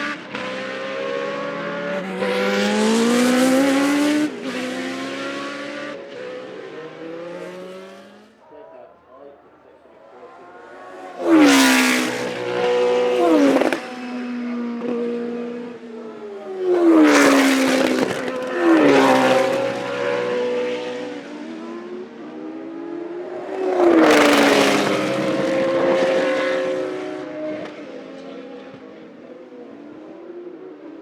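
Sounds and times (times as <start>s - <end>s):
racing cars passing at speed: 0.0s - 8.6s, 9.5s - 31.0s.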